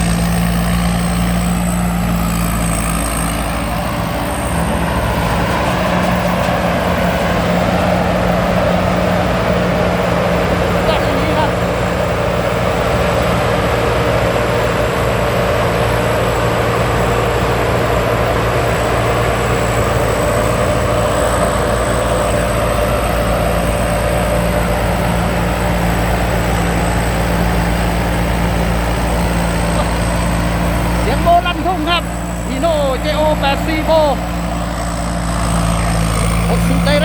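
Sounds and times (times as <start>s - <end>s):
faint high whine: 0.0s - 37.0s
harvester engine drone: 0.0s - 37.0s.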